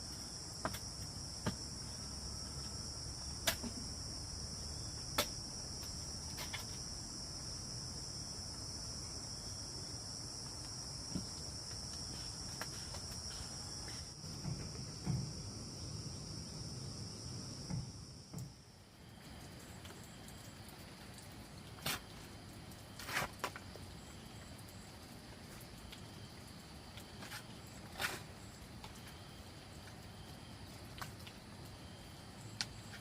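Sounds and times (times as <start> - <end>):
insect chorus trilling: 0.0 - 33.0.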